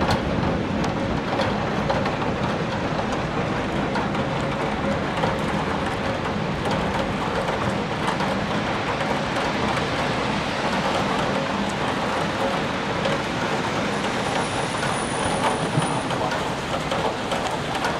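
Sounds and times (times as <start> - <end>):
heavy rain: 0.0 - 17.9.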